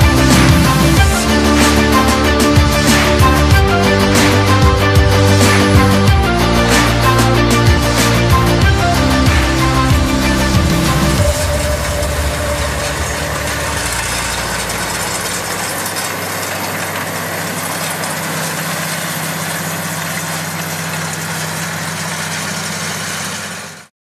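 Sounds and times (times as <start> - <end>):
tractor engine running: 0.0 - 23.9.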